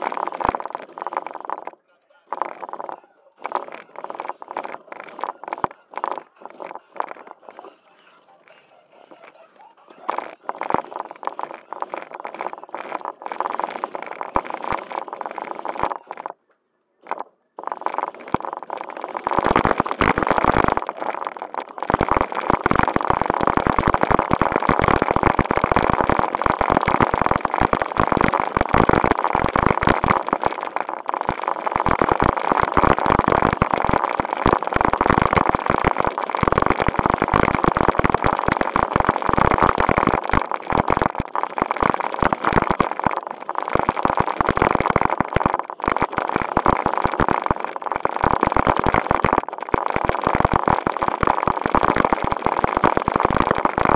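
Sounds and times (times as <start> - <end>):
tyres crackling on gravel: 0.0 - 16.4, 17.0 - 53.9.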